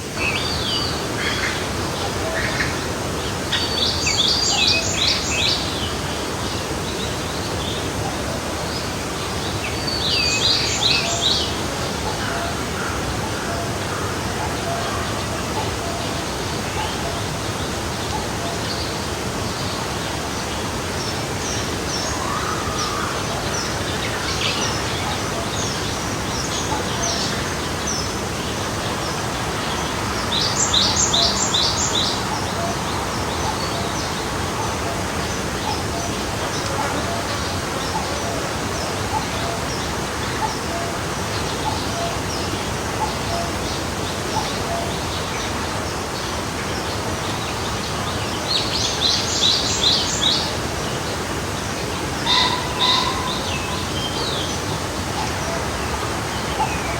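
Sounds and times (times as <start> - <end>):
forest stream rushing: 0.0 - 56.9.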